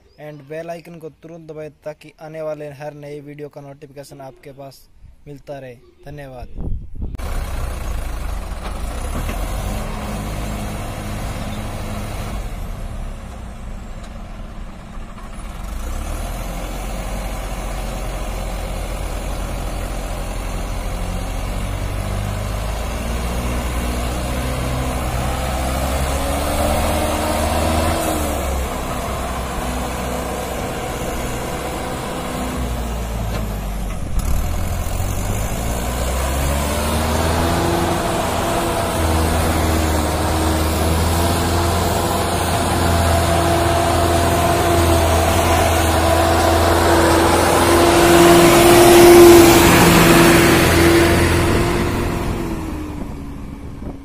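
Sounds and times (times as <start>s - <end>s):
tractor diesel engine labouring: 7.2s - 54.0s.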